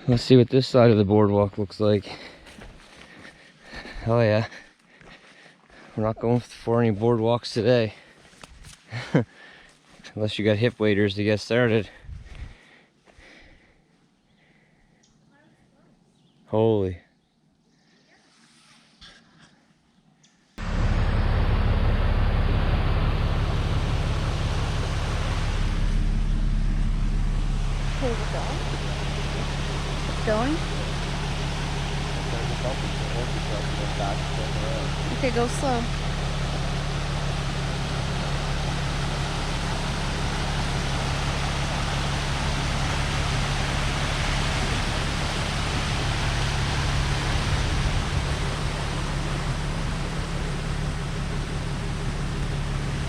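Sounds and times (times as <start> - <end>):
vehicle engine rumbling: 0.0 - 12.6, 20.6 - 53.0.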